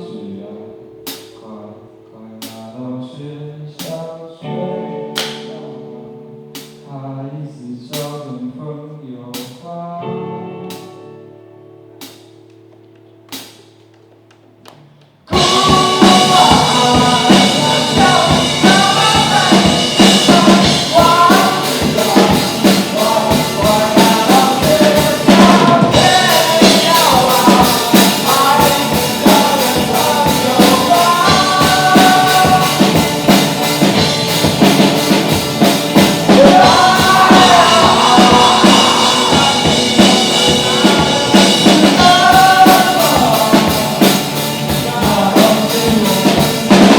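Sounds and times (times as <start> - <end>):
rock song with drums and singing: 1.0 - 1.6, 2.4 - 3.0, 3.7 - 7.2, 7.8 - 8.4, 9.2 - 11.3, 11.9 - 14.3, 15.1 - 46.9.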